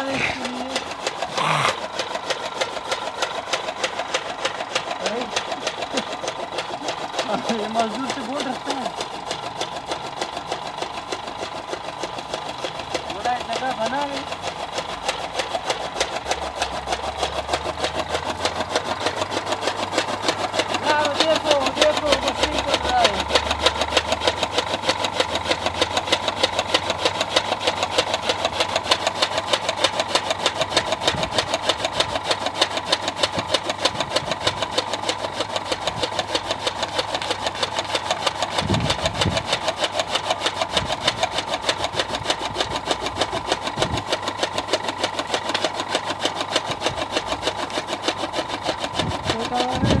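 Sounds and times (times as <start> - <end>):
blades chopping fodder: 0.0 - 50.0
motor hum: 0.0 - 50.0.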